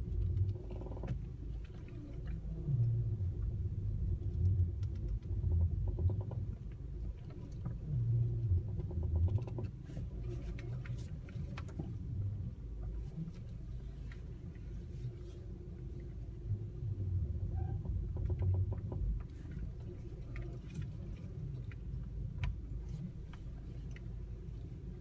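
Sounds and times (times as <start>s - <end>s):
car engine rumbling: 0.0s - 25.0s
steering creaking: 0.0s - 25.0s.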